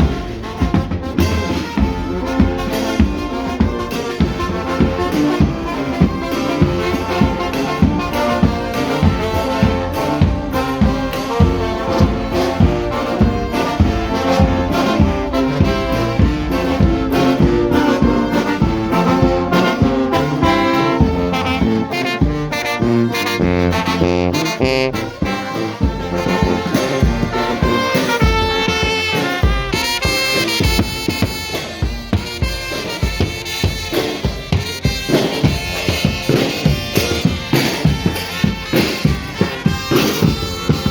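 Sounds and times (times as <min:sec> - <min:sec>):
steady drum beat: 0:00.0 - 0:40.9
trumpets and trombones: 0:00.0 - 0:40.9.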